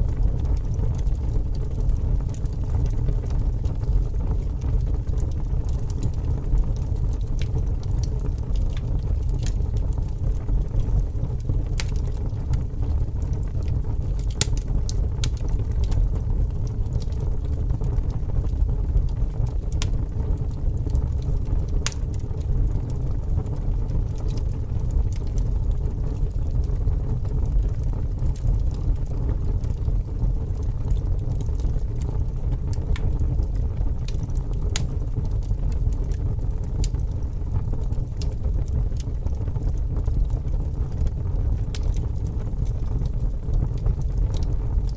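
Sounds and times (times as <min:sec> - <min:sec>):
bonfire crackling and popping: 0:00.0 - 0:44.9
low fire rumble: 0:00.0 - 0:44.9.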